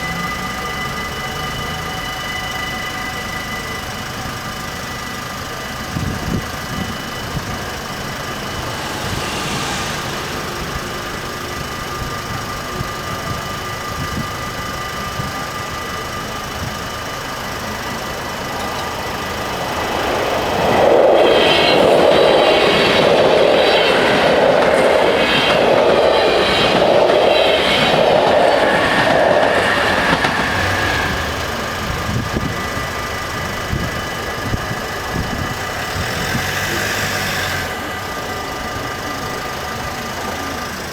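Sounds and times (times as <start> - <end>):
crossing warning bells ringing: 0.0 - 40.9
train wheels clattering on rails: 0.0 - 40.9.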